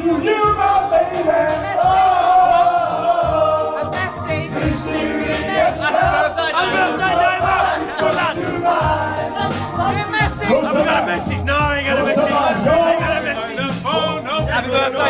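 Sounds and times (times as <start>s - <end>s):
pop backing track: 0.0s - 15.0s
young men singing: 0.0s - 15.0s.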